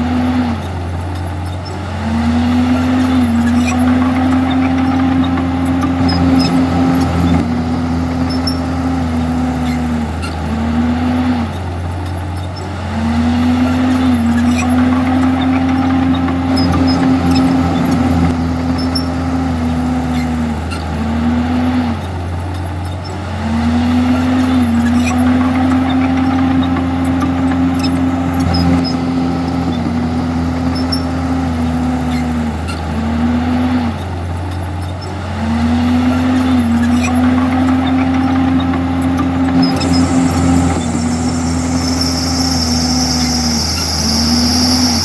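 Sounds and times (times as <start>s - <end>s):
bulldozer diesel engine: 0.0s - 45.0s.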